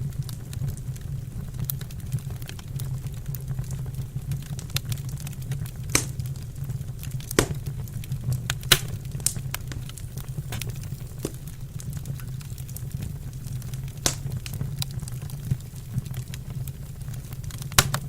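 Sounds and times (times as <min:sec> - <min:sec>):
low rumble of fire: 0:00.0 - 0:18.0
wood fire crackling and popping: 0:00.0 - 0:18.0.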